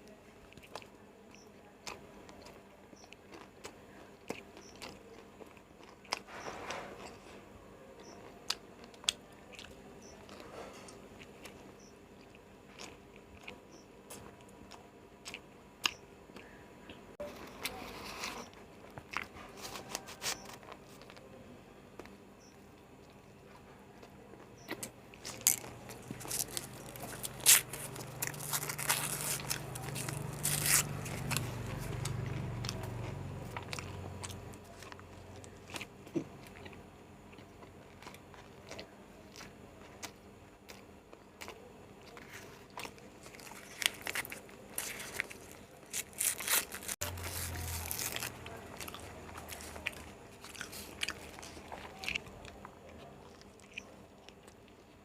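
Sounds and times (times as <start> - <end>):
person biting and chewing food: 0.5 - 7.3, 8.0 - 16.5, 17.2 - 21.2, 24.0 - 55.0.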